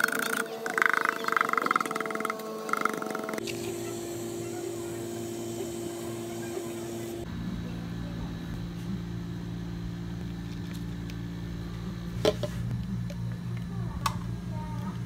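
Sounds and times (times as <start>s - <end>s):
cafe equipment humming: 0.0s - 15.0s.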